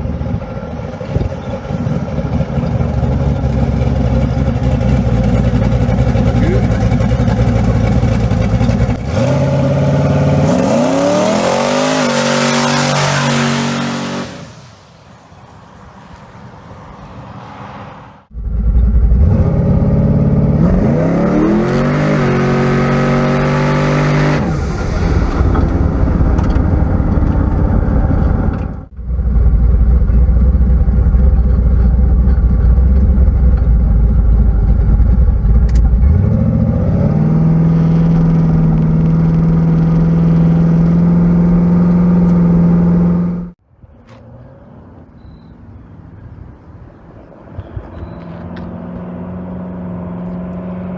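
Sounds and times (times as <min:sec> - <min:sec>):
car engine accelerating hard: 0:00.0 - 0:14.8, 0:18.2 - 0:45.0, 0:46.6 - 0:50.9.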